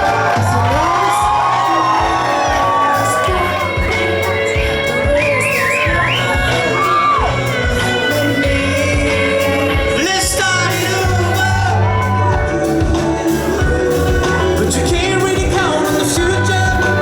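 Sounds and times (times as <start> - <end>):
person singing long notes: 0.0 - 17.0
rock band playing live: 0.0 - 17.0.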